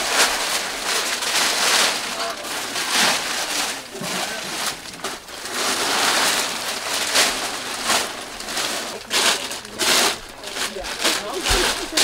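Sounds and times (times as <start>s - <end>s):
plastic sheet rustling: 0.0s - 12.0s.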